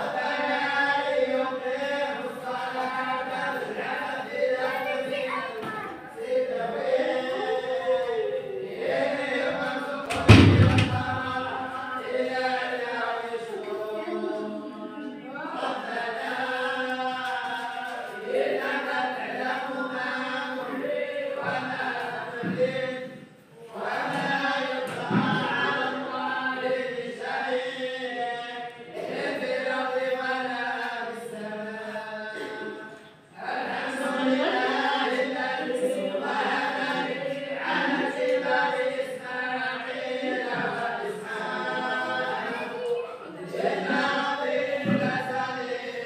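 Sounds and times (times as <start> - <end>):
group of voices chanting: 0.0 - 46.0.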